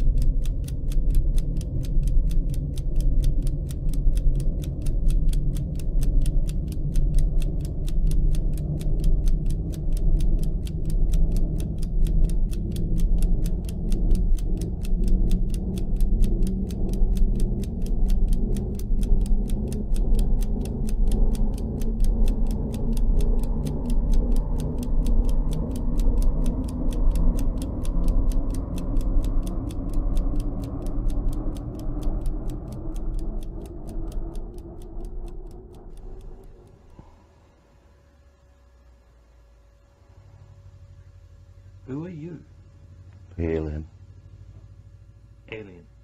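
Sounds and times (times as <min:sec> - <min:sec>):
rapid even ticking: 0:00.0 - 0:37.6
low droning music: 0:00.0 - 0:43.4.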